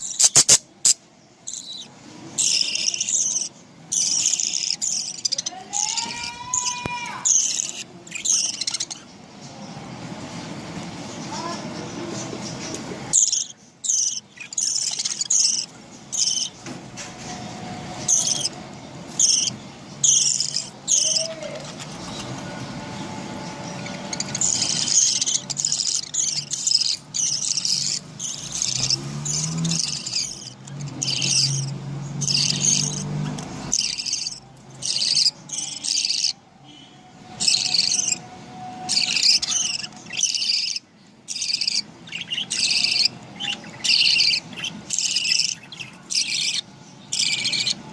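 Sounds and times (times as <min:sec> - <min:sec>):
budgerigars chirping: 0:00.0 - 0:47.9.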